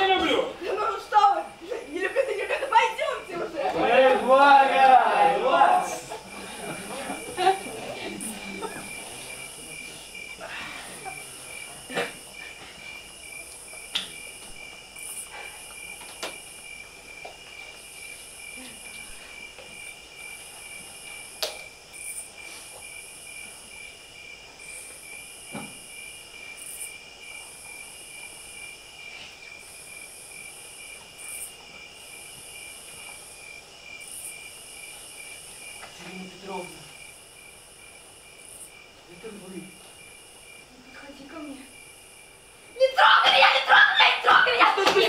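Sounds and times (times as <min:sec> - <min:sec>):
high insect buzz: 0:00.0 - 0:44.6
crickets chirping: 0:00.0 - 0:45.0.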